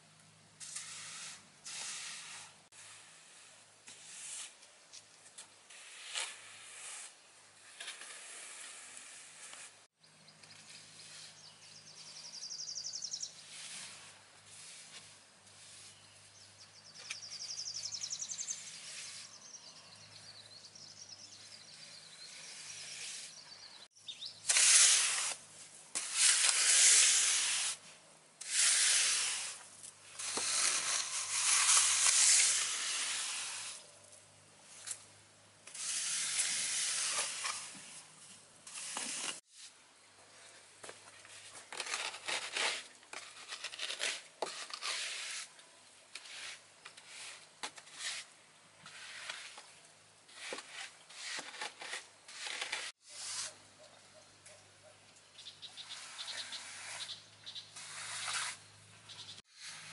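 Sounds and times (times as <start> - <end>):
trowel scraping wet concrete: 0.6 - 20.1, 21.2 - 23.8, 24.4 - 35.0, 35.6 - 39.8, 41.1 - 53.7, 55.7 - 58.7, 59.3 - 59.9.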